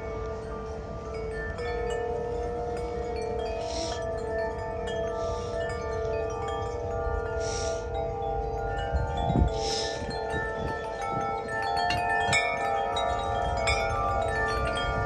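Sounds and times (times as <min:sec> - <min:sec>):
tubular wind chime ringing: 0:00.0 - 0:15.0
wind rumbling on microphone: 0:00.0 - 0:15.0.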